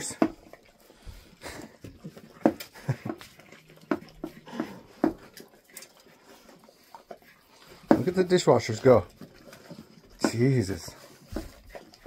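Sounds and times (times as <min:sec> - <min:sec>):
dogs lapping: 0:00.0 - 0:12.0.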